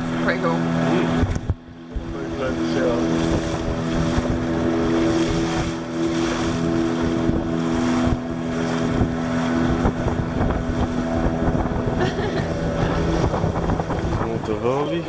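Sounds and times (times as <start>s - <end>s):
boat motor running: 0.0s - 15.0s
water rushing past hull: 0.0s - 15.0s
wind on microphone: 0.0s - 15.0s.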